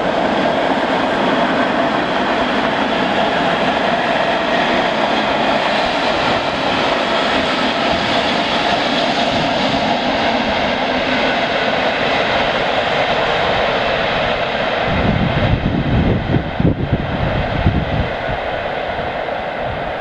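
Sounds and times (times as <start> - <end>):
freight train rolling on rails: 0.0 - 20.0
wind buffeting microphone: 0.0 - 20.0.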